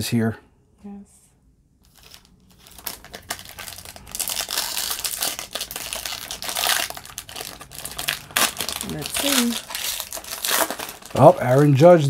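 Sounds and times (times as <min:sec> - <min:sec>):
foil wrapper crinkling and tearing: 0:01.8 - 0:12.0.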